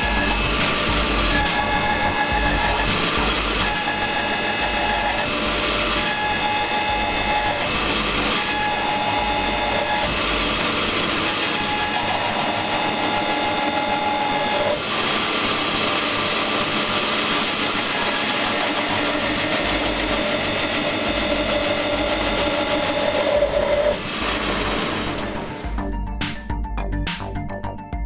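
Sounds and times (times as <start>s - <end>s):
machining whine: 0.0s - 26.0s.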